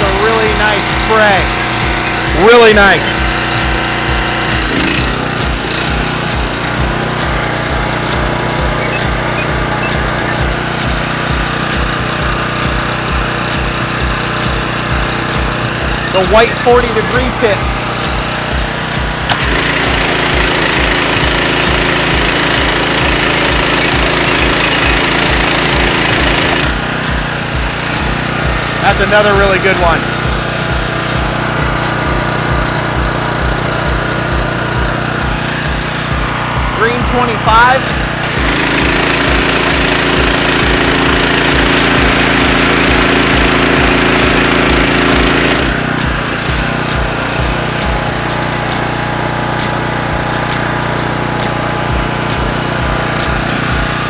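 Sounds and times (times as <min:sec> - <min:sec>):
pressure washer engine running: 0:00.0 - 0:54.0.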